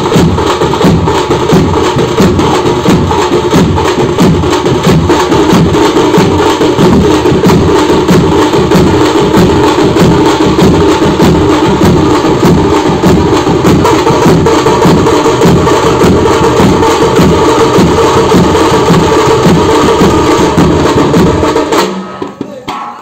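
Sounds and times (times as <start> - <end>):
bass drums: 0.0 - 23.0
stick-beaten drums: 0.0 - 23.0.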